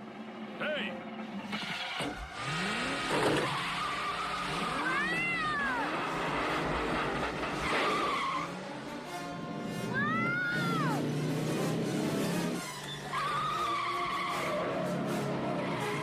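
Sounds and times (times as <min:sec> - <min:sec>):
car engine revving: 0:00.0 - 0:16.0
tyres screeching: 0:01.5 - 0:16.0.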